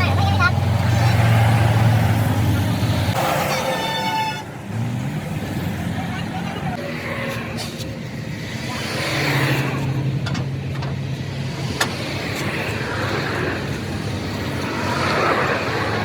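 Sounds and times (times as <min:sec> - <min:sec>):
vehicles passing on road: 0:00.0 - 0:16.0.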